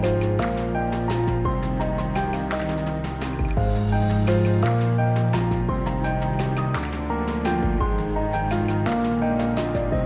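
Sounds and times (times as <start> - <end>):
gentle melodic background music: 0.0 - 10.0.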